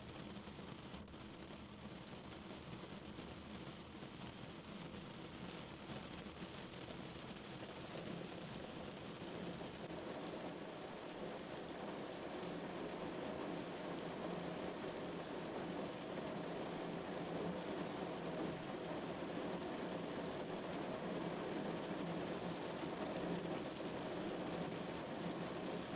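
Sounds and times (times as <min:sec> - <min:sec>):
rain pattering on a car: 0:00.0 - 0:25.9.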